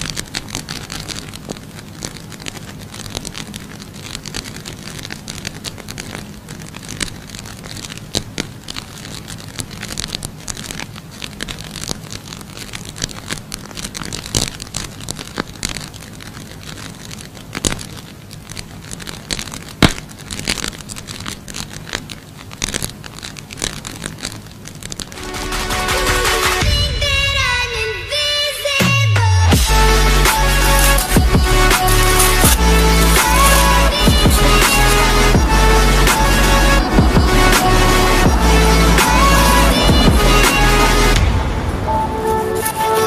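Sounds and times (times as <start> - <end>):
matches burning with rushing fire: 0.0 - 28.8, 29.4 - 43.0
fire crackling and popping: 0.0 - 43.0.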